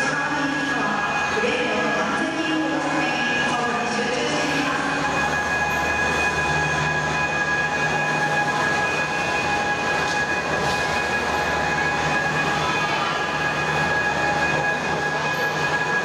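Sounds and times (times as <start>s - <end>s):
overhead crane running: 0.0s - 16.0s
steady high tones: 0.0s - 16.0s.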